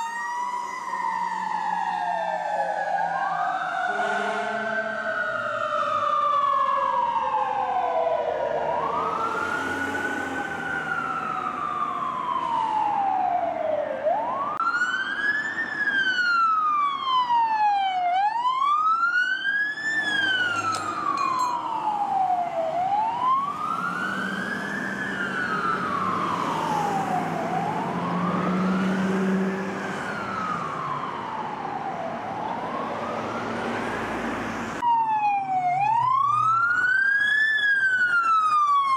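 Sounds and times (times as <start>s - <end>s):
fire engine sirens wailing: 0.0s - 38.9s.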